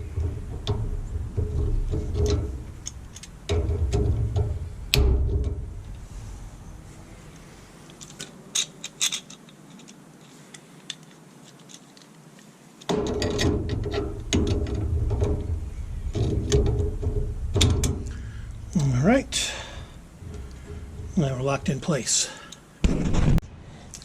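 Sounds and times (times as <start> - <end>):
metal parts clicking and rattling: 0.0 - 6.0, 7.8 - 12.2, 12.8 - 22.8
metal scraping and clanking: 0.0 - 9.9, 12.9 - 23.4.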